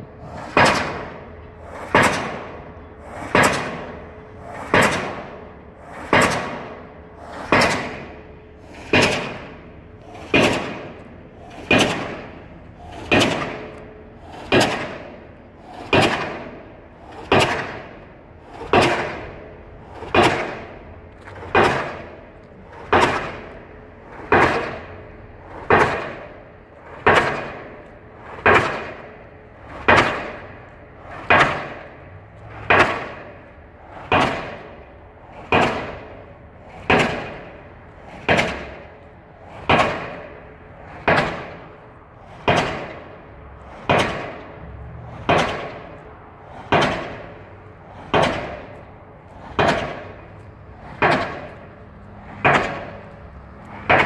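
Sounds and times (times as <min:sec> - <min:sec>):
pile driver hammering: 0:00.2 - 0:41.8, 0:42.4 - 0:54.0.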